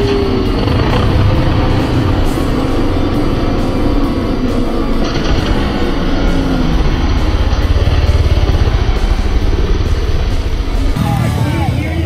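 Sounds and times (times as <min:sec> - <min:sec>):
dirt bike engines running: 0:00.0 - 0:12.0
loud music: 0:00.0 - 0:12.0.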